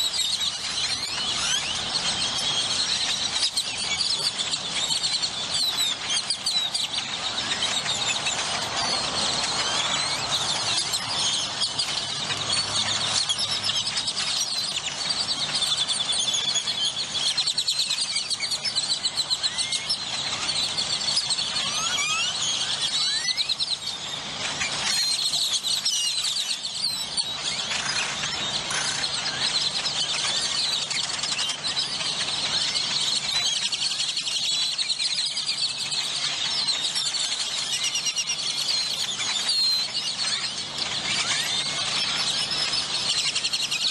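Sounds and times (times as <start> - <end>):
flock of birds chattering: 0.0 - 43.9.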